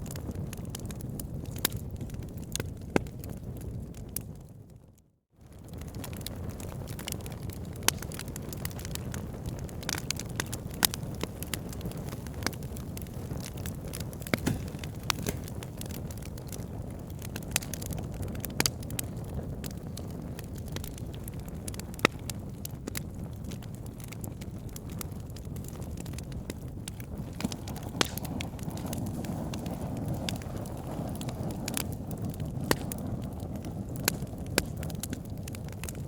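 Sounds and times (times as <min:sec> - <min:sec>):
burning logs crackling and popping: 0:00.0 - 0:36.0
low rumble of flames: 0:00.0 - 0:36.0.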